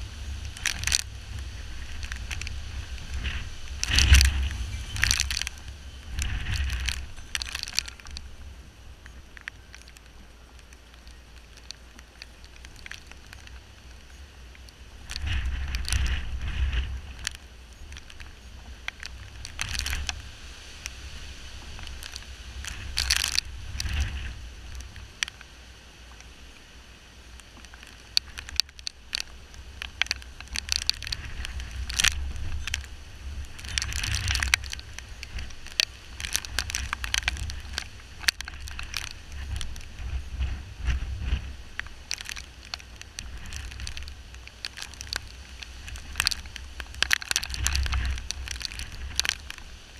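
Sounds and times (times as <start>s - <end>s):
wind buffeting microphone: 0.0s - 25.4s, 27.8s - 49.9s
raindrops ticking on housing: 0.0s - 49.9s.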